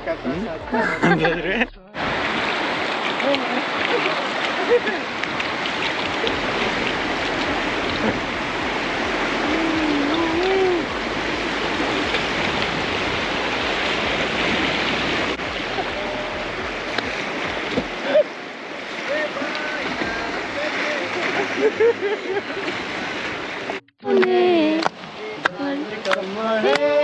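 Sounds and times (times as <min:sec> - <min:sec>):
river rapids rushing: 0:00.0 - 0:27.0.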